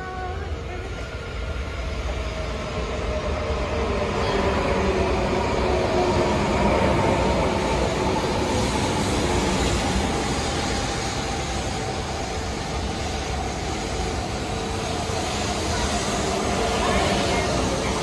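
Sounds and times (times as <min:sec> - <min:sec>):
faint train whine: 0:00.0 - 0:18.0
train wheels rumbling on rail: 0:00.0 - 0:18.0.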